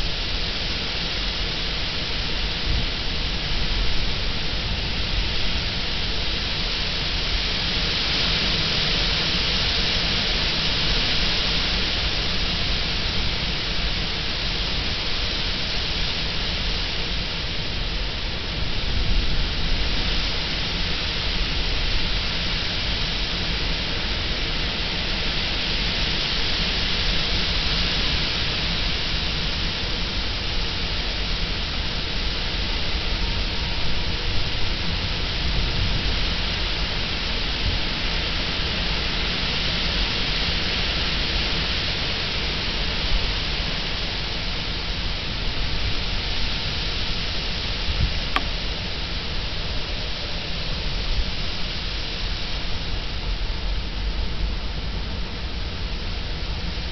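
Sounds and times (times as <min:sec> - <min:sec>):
wind buffeting the microphone: 0:00.0 - 0:56.9
wind rustling through weeds: 0:00.0 - 0:56.9.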